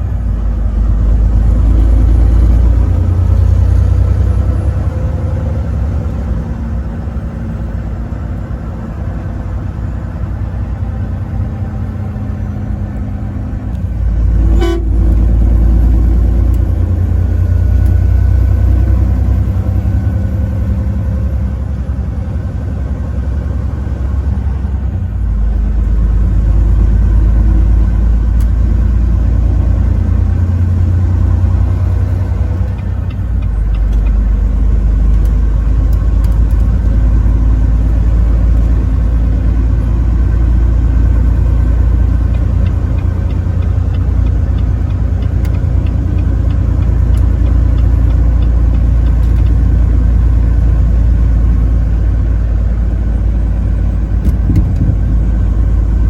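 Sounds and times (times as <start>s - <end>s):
truck engine and road rumble: 0.0s - 56.0s.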